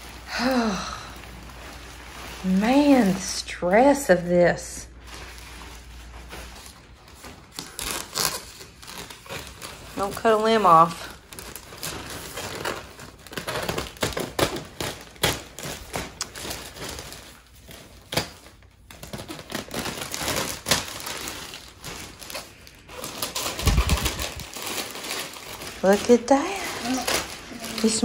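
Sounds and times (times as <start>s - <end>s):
plastic crinkling: 0.0s - 28.0s.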